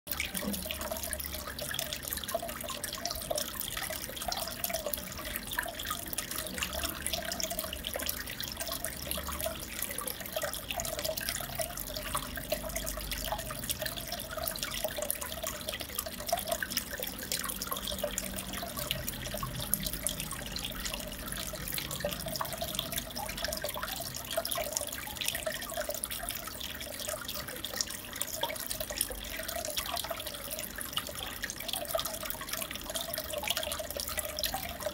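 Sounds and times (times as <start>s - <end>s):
aquarium water trickling and bubbling: 0.1s - 34.9s
small water drips and pops: 0.1s - 34.9s.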